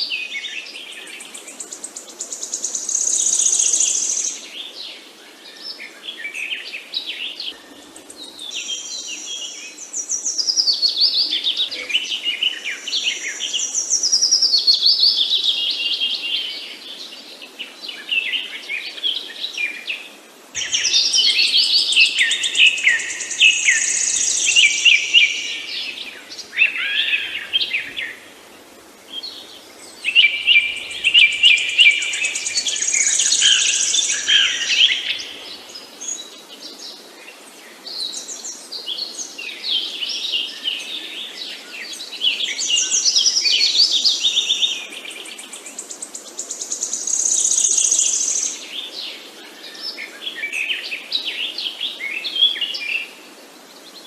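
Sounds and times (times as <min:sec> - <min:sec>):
faint steady background hiss: 0:00.0 - 0:54.0
songbirds singing and chirping: 0:00.0 - 0:54.0.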